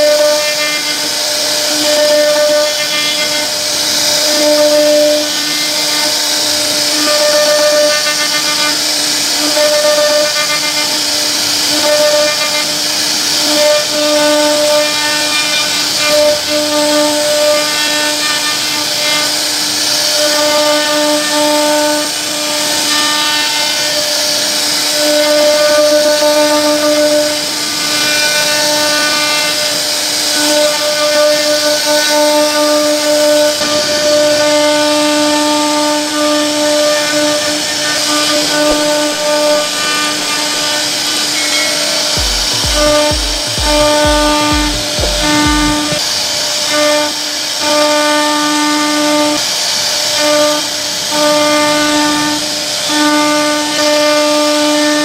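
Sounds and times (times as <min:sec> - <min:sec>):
high hiss: 0:00.0 - 0:53.8.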